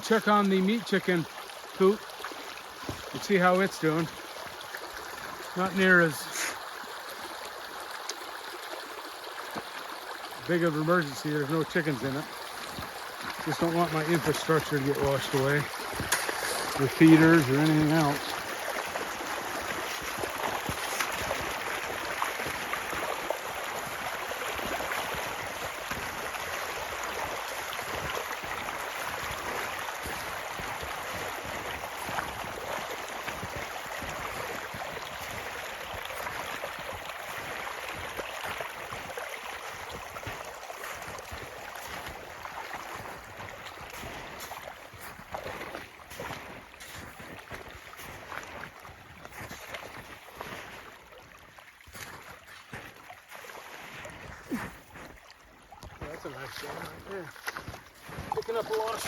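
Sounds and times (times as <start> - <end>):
water rushing down a ditch: 0.0 - 59.0.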